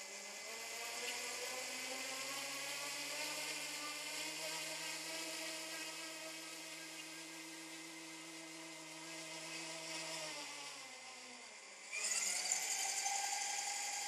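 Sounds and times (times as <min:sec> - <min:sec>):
electric motor whine: 0:00.0 - 0:14.0
rotor hiss: 0:00.0 - 0:14.0.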